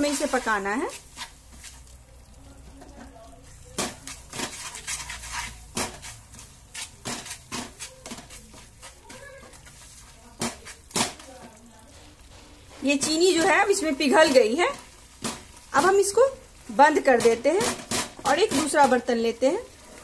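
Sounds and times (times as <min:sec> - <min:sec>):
wooden spatula scraping a pan: 0:00.0 - 0:02.1, 0:02.8 - 0:20.0.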